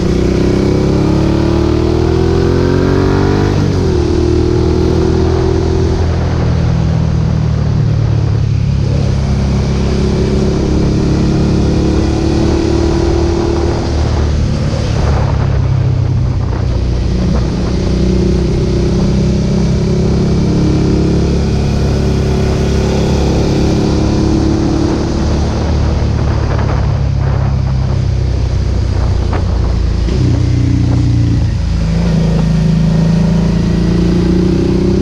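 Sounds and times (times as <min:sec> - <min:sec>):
motorcycle engine while riding: 0:00.0 - 0:35.0.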